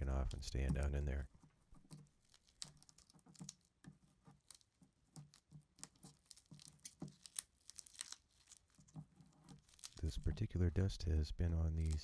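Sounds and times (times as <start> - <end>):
tape crinkling and crackling: 0.0 - 10.7, 11.7 - 12.0.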